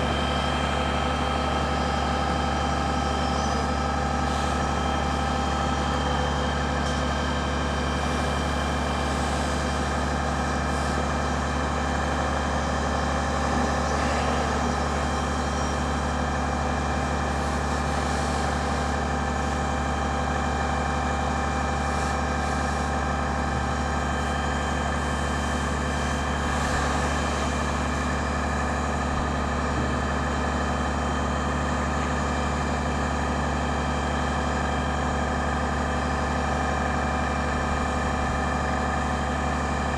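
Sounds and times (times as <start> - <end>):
fire truck engine droning: 0.0 - 39.9.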